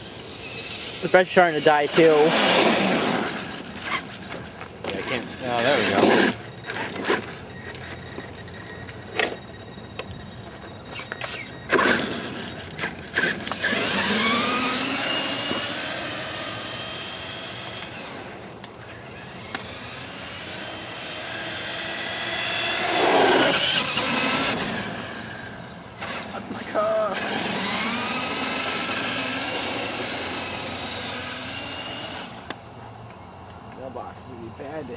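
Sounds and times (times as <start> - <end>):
rc truck motor whining: 0.0 - 33.2.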